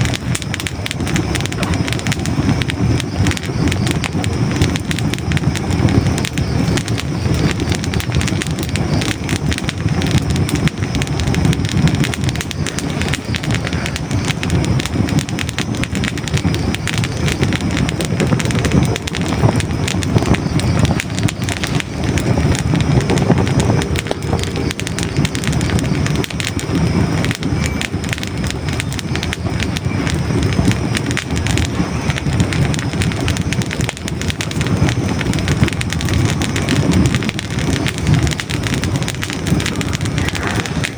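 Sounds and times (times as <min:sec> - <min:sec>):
logs crackling and popping: 0:00.0 - 0:40.9
low rush of flame: 0:00.0 - 0:40.9.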